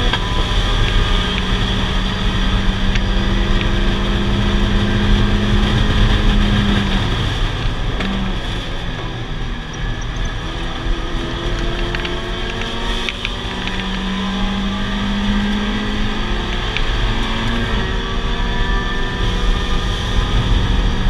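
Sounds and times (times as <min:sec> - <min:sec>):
car engine accelerating: 0:00.0 - 0:21.0
wind and road noise: 0:00.0 - 0:21.0.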